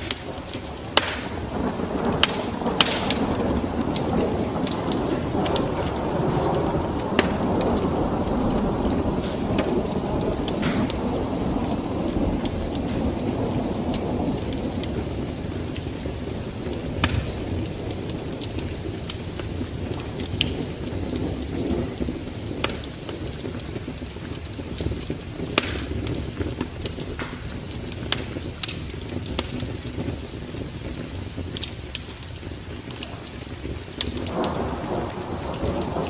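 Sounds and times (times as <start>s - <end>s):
low rumble of flames: 0.0s - 36.0s
sharp pops of fire: 0.0s - 36.0s
wood fire crackling: 0.0s - 36.0s.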